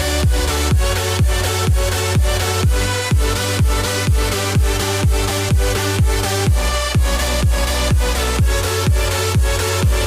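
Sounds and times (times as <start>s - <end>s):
deep kick drum: 0.0s - 10.0s.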